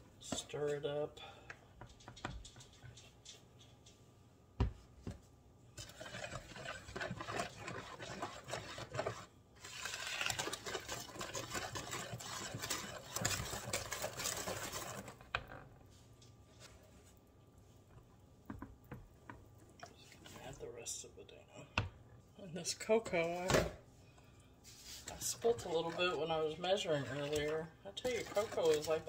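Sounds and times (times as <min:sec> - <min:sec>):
cake batter mixed in a bowl: 0:00.0 - 0:29.0.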